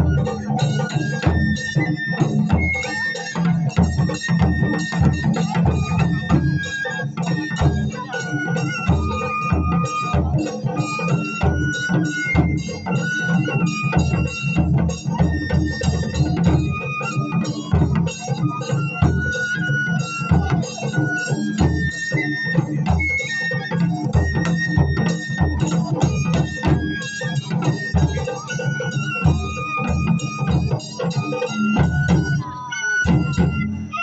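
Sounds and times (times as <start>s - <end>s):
taiko drums playing: 0.0s - 33.9s
bamboo flute melody: 0.0s - 34.0s.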